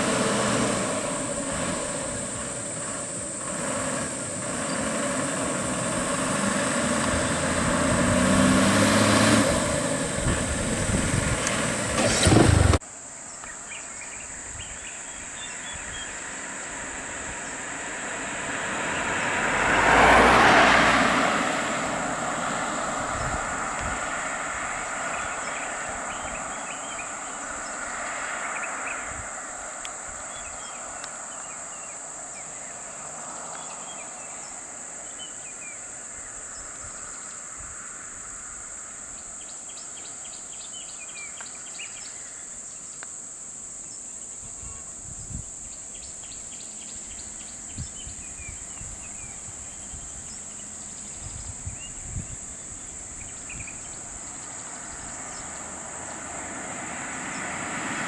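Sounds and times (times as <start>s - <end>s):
vehicle passing: 0.0s - 12.8s, 15.4s - 38.9s, 46.6s - 58.0s.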